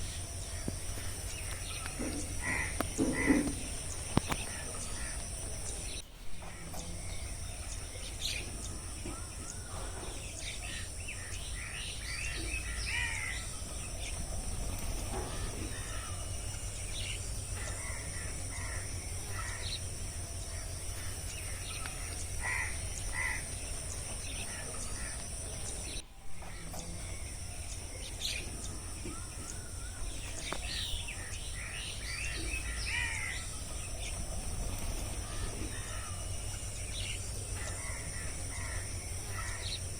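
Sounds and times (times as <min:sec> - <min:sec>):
bird calls and chirps: 0:00.0 - 0:39.9.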